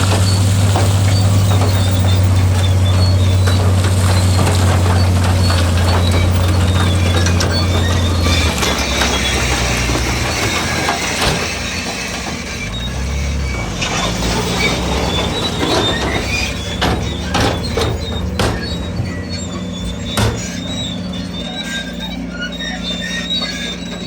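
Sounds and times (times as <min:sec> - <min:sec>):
bulldozer diesel engine running: 0:00.0 - 0:24.0
steel tracks squealing: 0:00.0 - 0:24.0.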